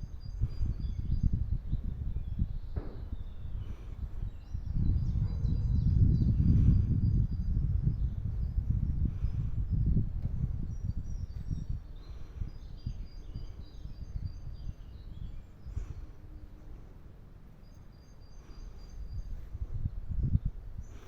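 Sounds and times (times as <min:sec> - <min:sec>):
small birds chirping: 0:00.0 - 0:21.0
uneven low rumble: 0:00.0 - 0:21.0.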